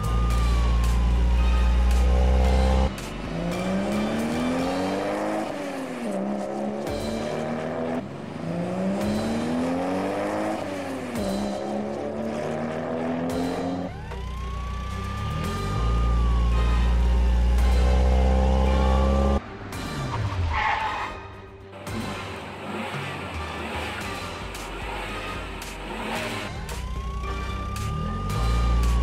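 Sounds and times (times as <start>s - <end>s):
car engine accelerating: 0.0s - 20.8s, 21.8s - 29.0s.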